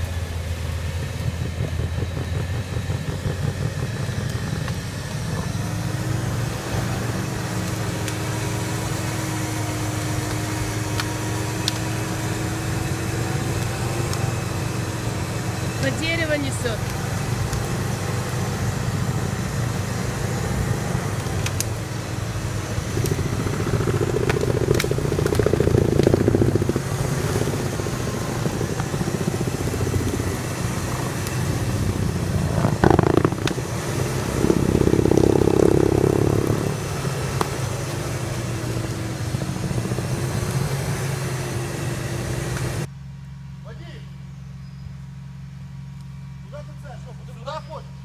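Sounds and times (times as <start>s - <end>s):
off-road engine revving: 0.0s - 42.9s.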